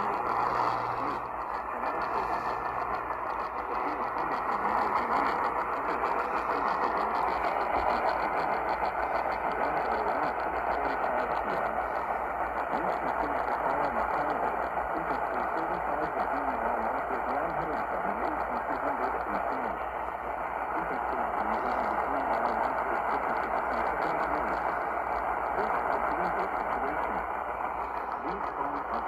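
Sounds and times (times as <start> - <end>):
radio static hiss: 0.0 - 29.0.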